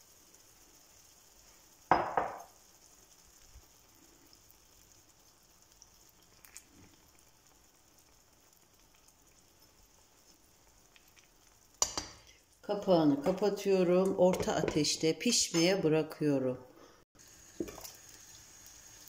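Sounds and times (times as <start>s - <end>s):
food sizzling in a frying pan: 0.0s - 15.6s, 17.2s - 19.0s.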